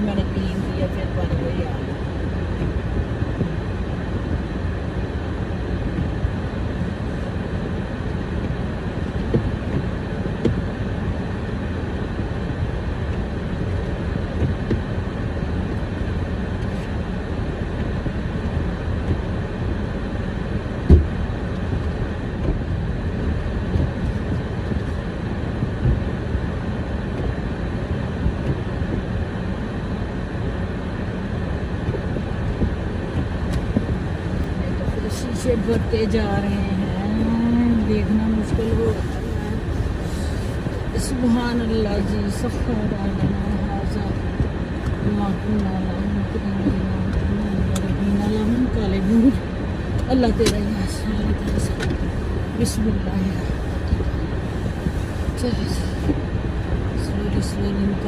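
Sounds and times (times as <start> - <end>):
car engine rumble inside cabin: 0.0 - 58.0.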